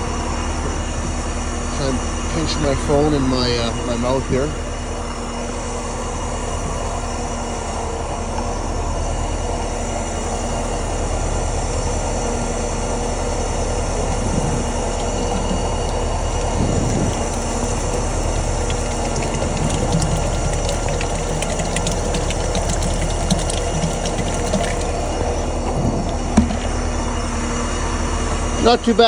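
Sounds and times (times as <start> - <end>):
engine idling low drone: 0.0 - 29.0.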